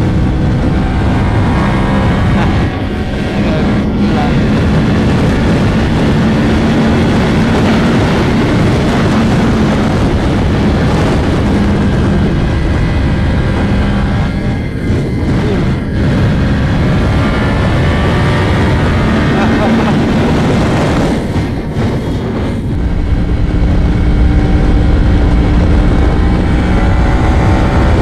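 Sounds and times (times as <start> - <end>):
motorcycle engine running: 0.0 - 28.0
wind rush: 0.0 - 28.0.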